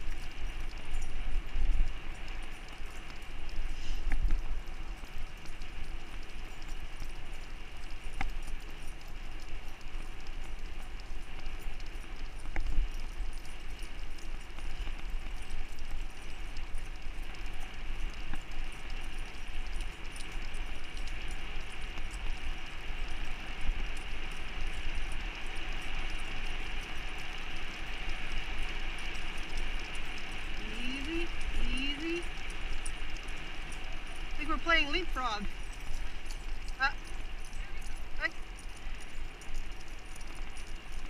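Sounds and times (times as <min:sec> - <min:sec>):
wheels rolling on asphalt: 0:00.0 - 0:41.0
wind rumble: 0:00.0 - 0:41.0.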